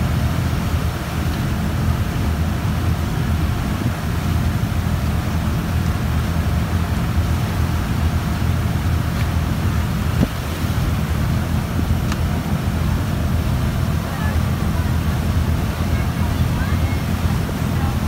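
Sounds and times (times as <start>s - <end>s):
boat engine running: 0.0s - 18.0s
water noise: 0.0s - 18.0s
wind: 0.0s - 18.0s.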